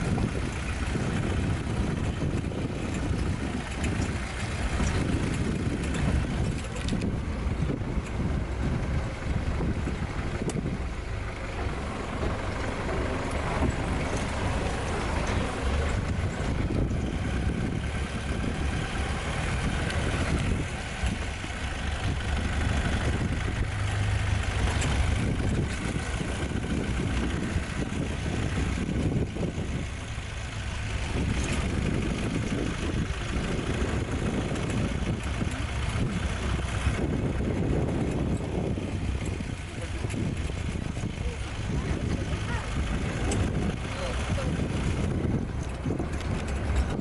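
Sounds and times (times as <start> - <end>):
vehicle engine rumbling: 0.0 - 47.0.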